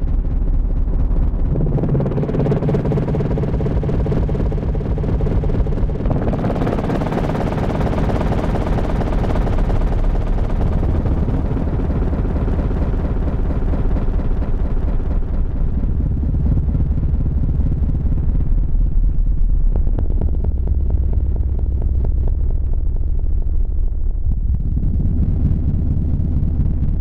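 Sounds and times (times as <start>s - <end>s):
deep rumble: 0.0s - 27.0s.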